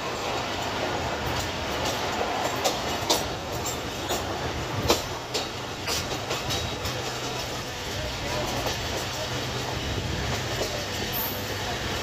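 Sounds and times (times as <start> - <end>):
train rumbling: 0.0 - 12.0
wheels clacking over rail joints: 0.0 - 12.0.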